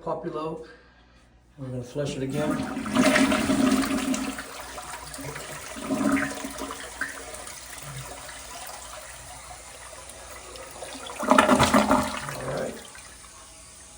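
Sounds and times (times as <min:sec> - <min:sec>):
toilet flushing: 0:02.1 - 0:13.9.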